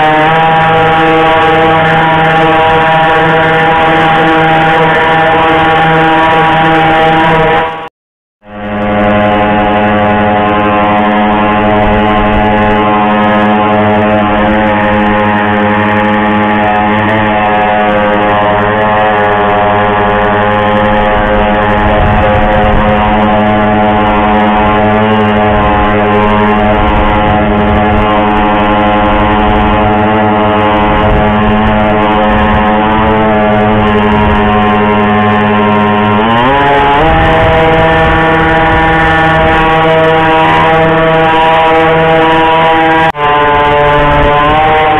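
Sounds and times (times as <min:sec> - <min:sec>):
small boat engine revving: 0:00.0 - 0:44.9.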